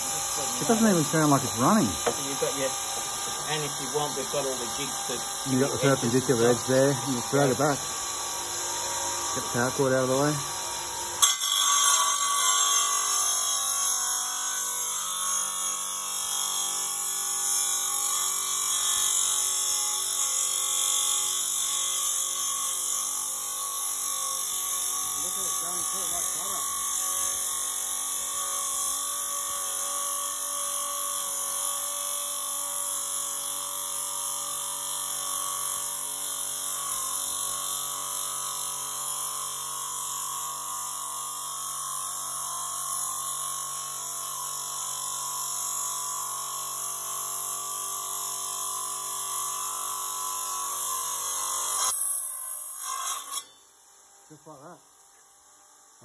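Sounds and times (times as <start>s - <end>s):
wet tile saw cutting stone: 0.0s - 53.8s.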